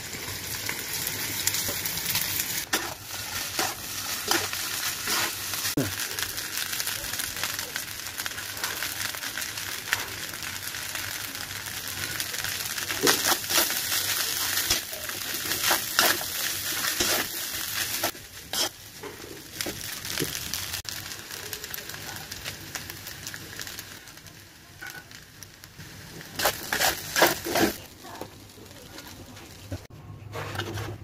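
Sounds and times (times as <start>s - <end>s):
fried rice sizzling in wok: 0.0s - 29.9s.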